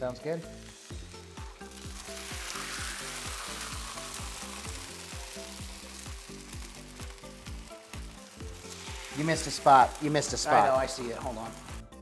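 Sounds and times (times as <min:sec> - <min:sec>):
tortillas sizzling on griddle: 0:00.0 - 0:12.0.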